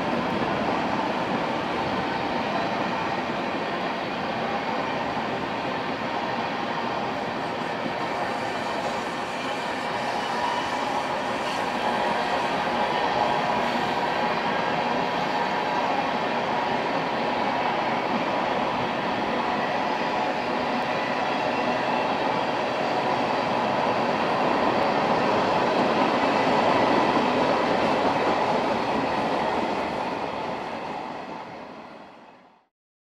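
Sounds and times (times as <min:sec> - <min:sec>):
freight train cars rumbling and rattling: 0:00.0 - 0:32.2.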